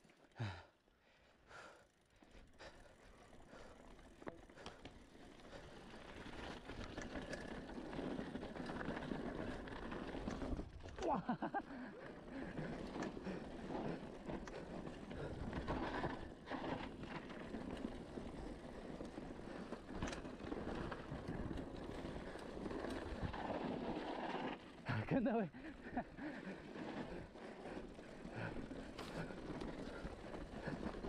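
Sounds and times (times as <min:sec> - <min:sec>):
bike tyres rolling on dirt trail: 0:00.0 - 0:31.0.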